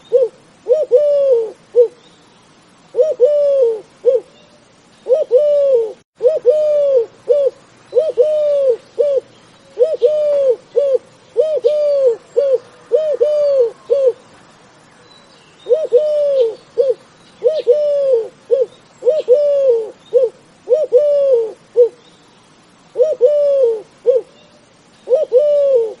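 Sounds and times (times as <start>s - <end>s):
dove cooing: 0.0s - 2.0s, 2.9s - 4.4s, 5.0s - 14.2s, 15.6s - 22.0s, 22.9s - 24.4s, 25.0s - 26.0s
small birds chirping: 1.6s - 6.0s, 7.2s - 26.0s.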